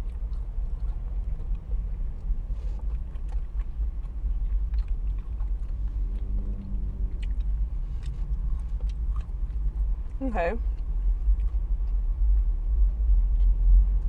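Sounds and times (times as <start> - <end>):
chewing fried food: 0.0 - 14.0
low rumble in car cabin: 0.0 - 14.0.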